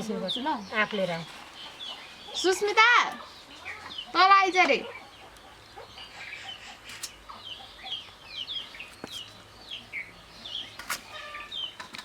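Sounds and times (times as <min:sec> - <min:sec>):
chicks peeping: 0:00.0 - 0:11.8.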